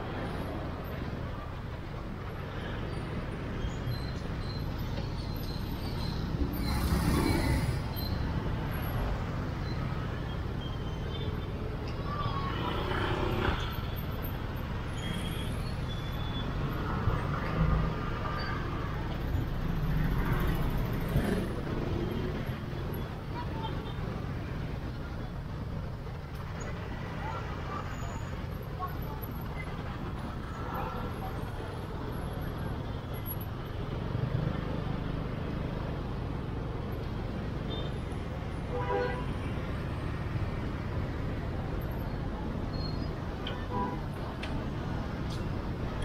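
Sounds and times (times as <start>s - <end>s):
motorbike and tuk-tuk engines: 0.0s - 46.0s
road noise rumble: 0.0s - 46.0s.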